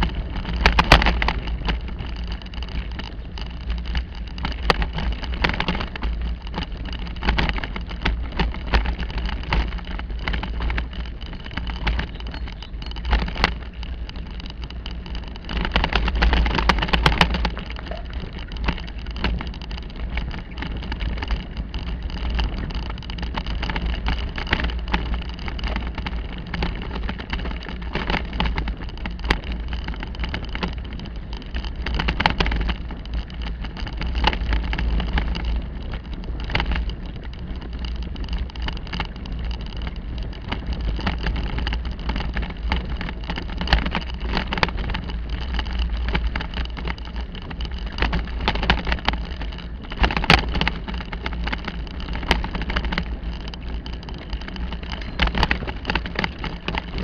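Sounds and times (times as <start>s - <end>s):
bike rattling over ruts: 0.0s - 57.0s
wind buffeting microphone: 0.0s - 57.0s.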